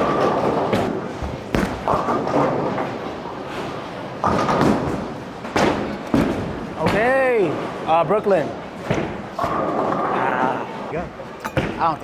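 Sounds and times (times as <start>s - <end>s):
bowling balls thudding: 0.0s - 10.9s.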